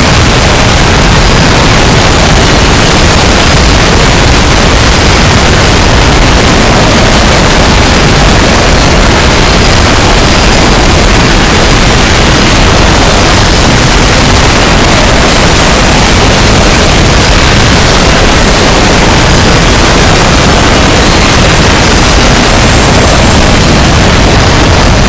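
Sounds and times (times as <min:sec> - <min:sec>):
distorted train crash noise: 0:00.0 - 0:25.0.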